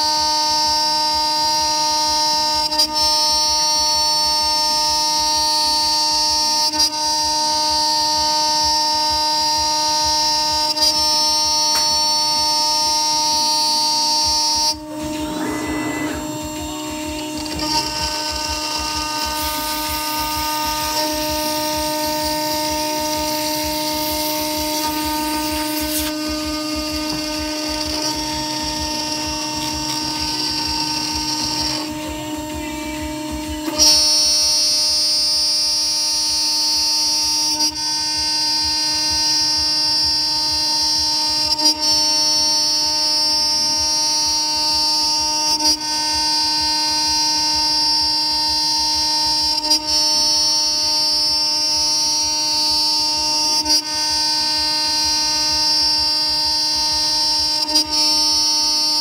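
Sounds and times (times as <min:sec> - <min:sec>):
router spindle high whine: 0:00.0 - 0:59.0.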